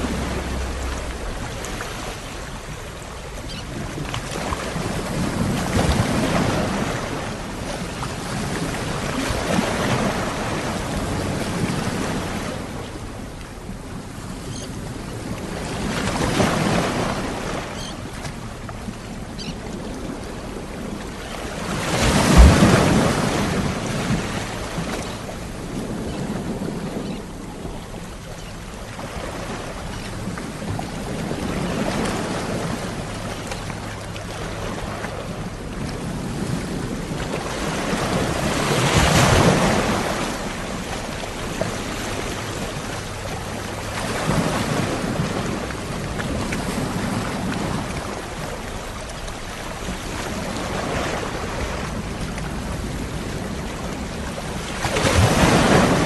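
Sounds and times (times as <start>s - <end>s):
ocean waves washing onto shore: 0.0s - 56.0s.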